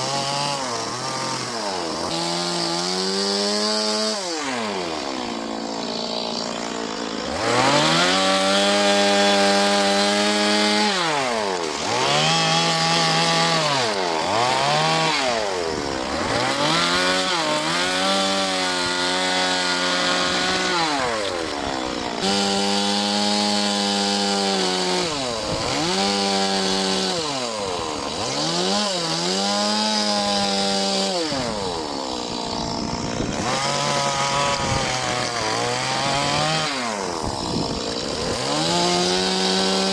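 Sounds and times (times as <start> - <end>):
chainsaw revving while carving wood: 0.0 - 39.9.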